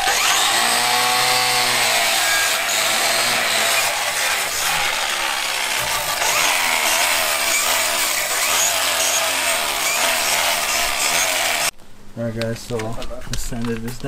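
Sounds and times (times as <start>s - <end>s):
wire brush grinder scrubbing metal: 0.0s - 11.7s.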